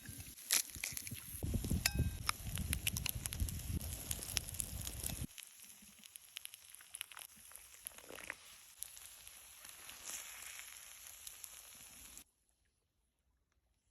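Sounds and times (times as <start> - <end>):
cooking fire sizzling and crackling: 0.0 - 12.2.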